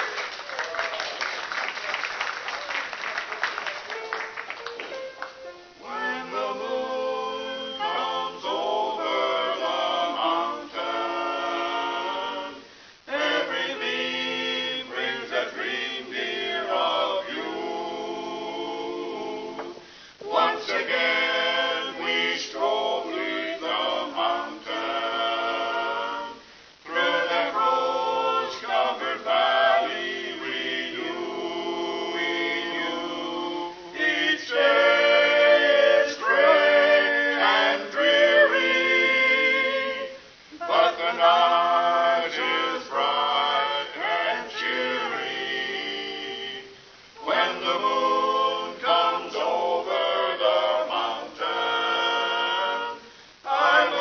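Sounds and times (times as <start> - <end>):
vocal quartet singing a cappella: 5.4 - 54.0.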